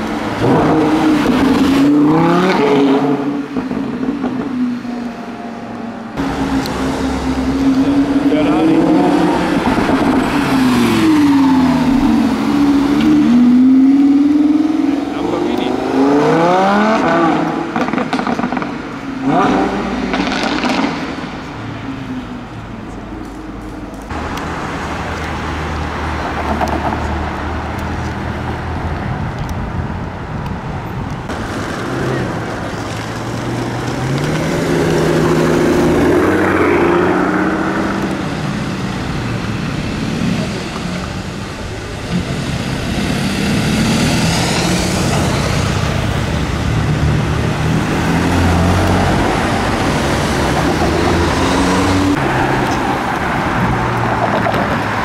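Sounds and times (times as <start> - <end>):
city traffic noise: 0.0 - 55.0.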